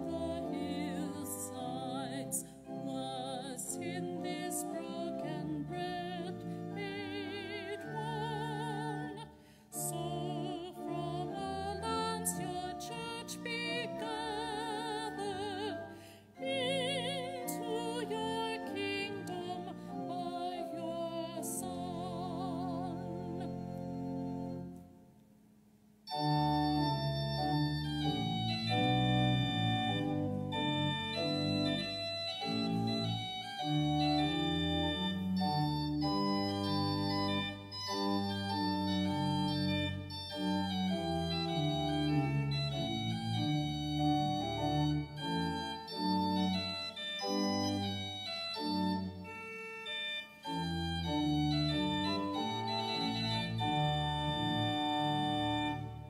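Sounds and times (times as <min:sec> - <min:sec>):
organ chords: 0:00.0 - 0:25.0, 0:26.0 - 0:56.0.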